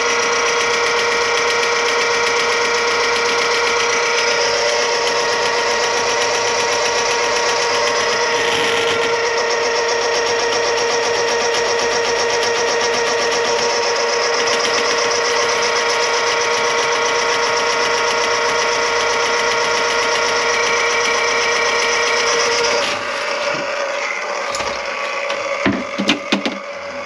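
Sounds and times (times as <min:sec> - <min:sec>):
small electric motor whirring: 0:00.0 - 0:27.0.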